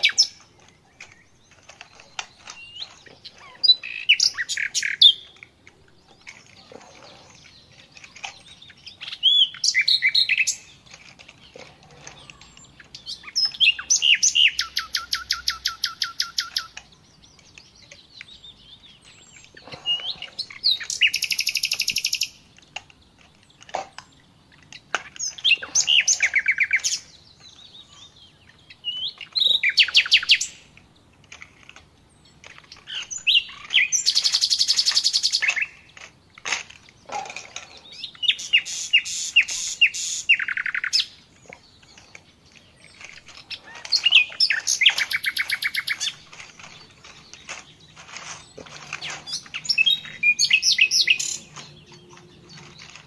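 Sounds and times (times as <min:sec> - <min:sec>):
songbird chirping trills: 0:00.0 - 0:53.0.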